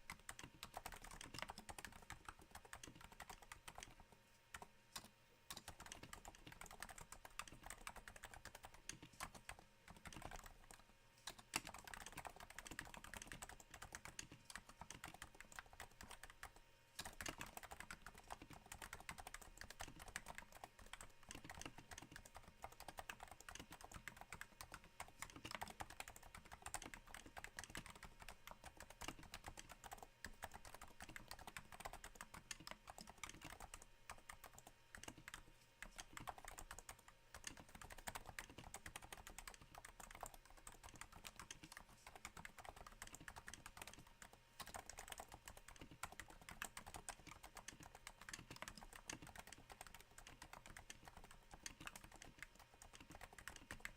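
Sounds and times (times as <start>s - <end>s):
soft keyboard keystrokes: 0.0s - 53.9s.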